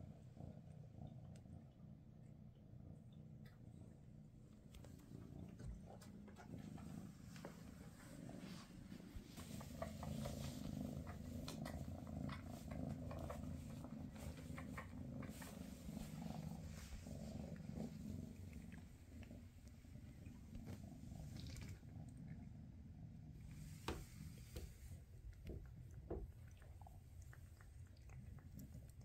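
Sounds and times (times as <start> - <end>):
cat purring: 0.0 - 29.0.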